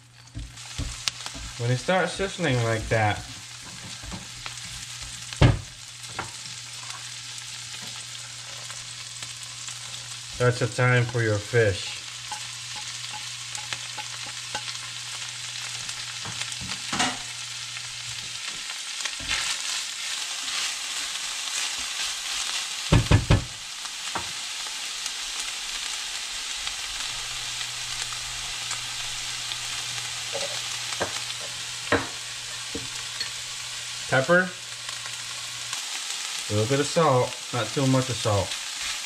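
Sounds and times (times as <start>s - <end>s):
fish frying in hot oil: 0.0s - 39.0s.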